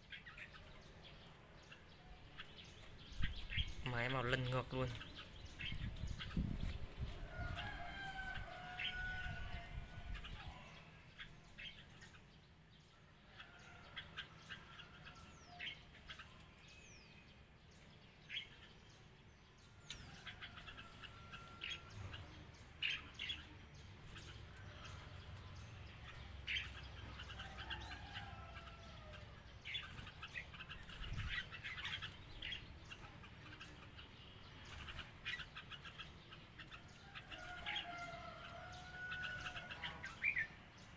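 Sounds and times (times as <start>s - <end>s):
bulbuls chirping and warbling: 0.0s - 40.9s.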